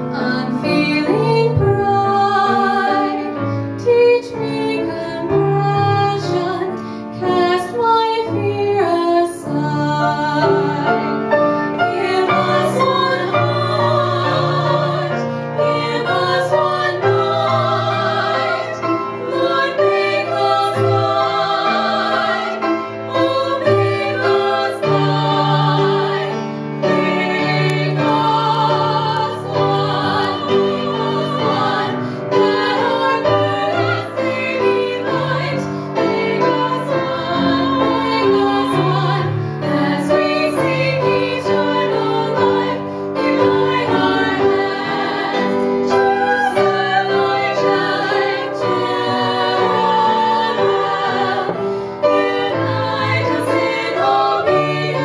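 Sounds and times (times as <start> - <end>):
women singing in harmony: 0.0 - 55.0.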